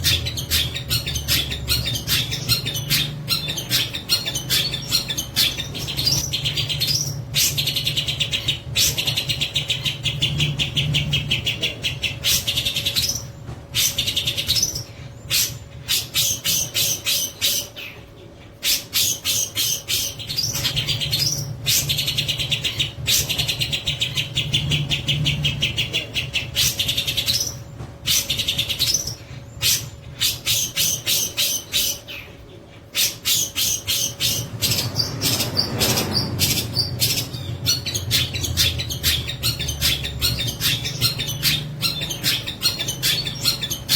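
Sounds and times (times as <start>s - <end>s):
bird singing rapid chattering notes: 0.0s - 43.9s.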